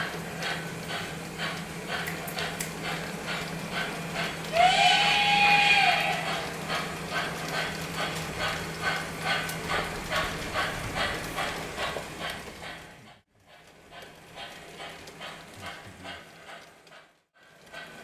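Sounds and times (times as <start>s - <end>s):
model train rhythmic beat: 0.0s - 18.0s.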